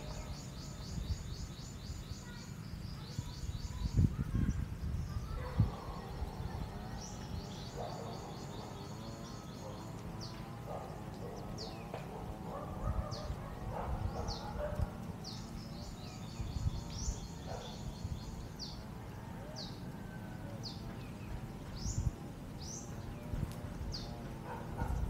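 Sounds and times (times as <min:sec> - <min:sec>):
gusty wind rumble: 0:00.0 - 0:19.4, 0:20.8 - 0:25.0
birds chirping: 0:00.0 - 0:25.0.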